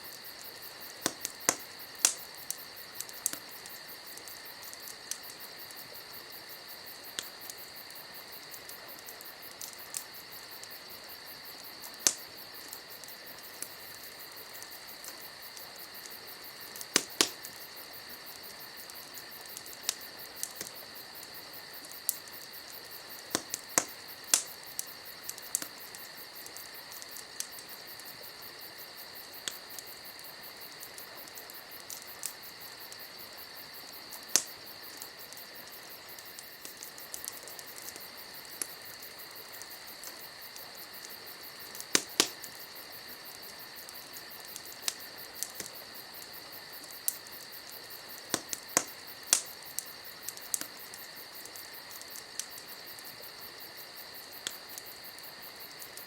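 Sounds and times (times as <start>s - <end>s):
campfire popping and crackling: 0.0s - 56.0s
crickets trilling: 0.0s - 56.0s.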